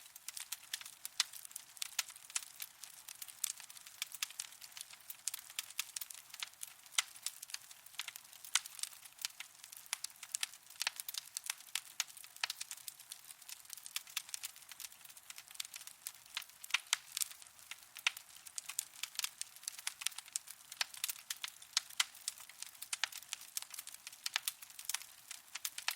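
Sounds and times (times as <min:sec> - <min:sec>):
fire crackling and popping: 0:00.0 - 0:25.9.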